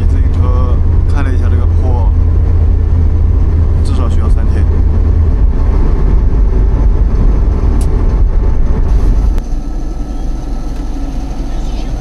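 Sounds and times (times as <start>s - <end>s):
engine and road rumble in cab: 0.0s - 12.0s.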